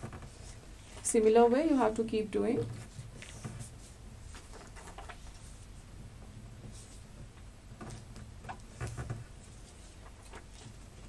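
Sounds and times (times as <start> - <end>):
paper rustling and creasing: 0.0 - 7.2, 7.8 - 11.0.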